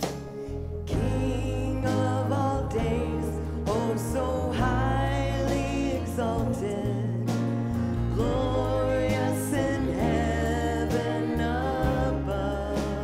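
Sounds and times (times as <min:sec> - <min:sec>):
instrumental accompaniment: 0:00.0 - 0:13.0
low held bass notes: 0:00.0 - 0:13.0
person singing: 0:00.8 - 0:13.0.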